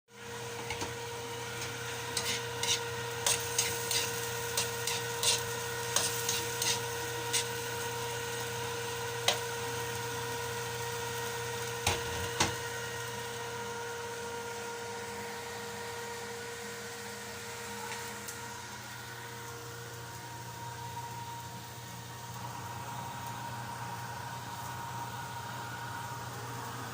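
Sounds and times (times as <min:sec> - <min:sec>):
electrical hum: 0:00.1 - 0:26.9.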